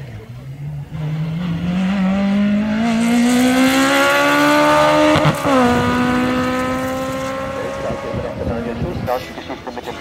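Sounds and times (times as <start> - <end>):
race car engine accelerating: 0.0 - 9.1.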